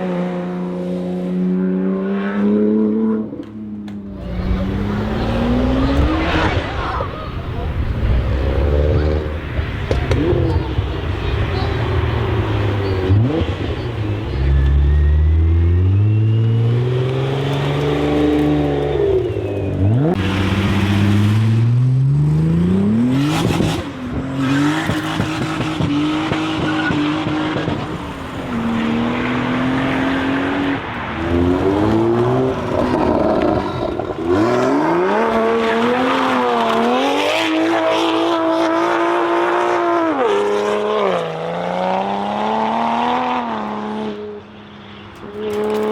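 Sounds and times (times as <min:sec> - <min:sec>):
vehicle engine revving: 0:01.0 - 0:44.4.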